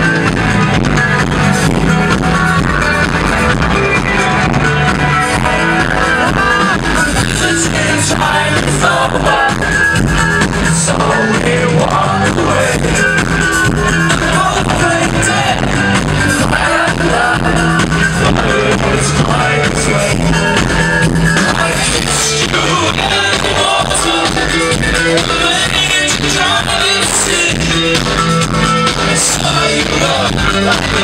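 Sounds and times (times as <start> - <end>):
live rock band playing: 0.0 - 31.0
man singing lead vocals: 1.7 - 31.0.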